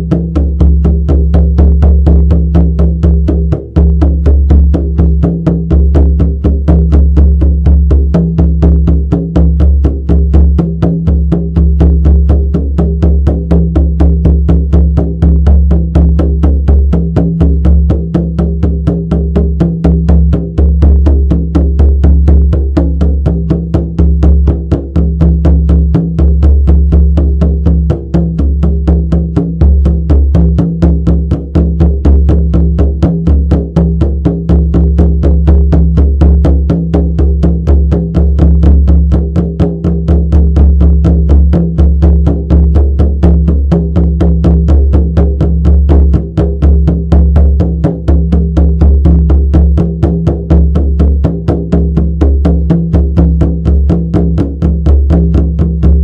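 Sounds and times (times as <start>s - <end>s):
frame drum beating: 0.0s - 56.0s.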